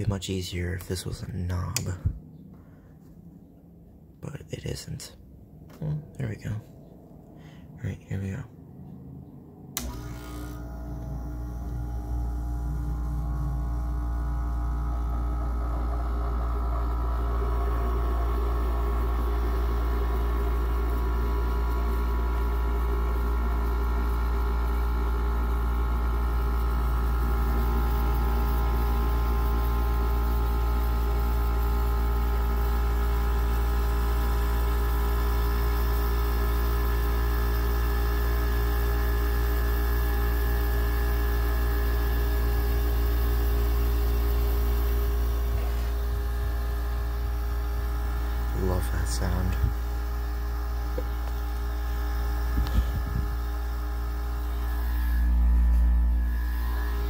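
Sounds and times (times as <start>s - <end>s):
air conditioner compressor humming: 0.0s - 57.0s.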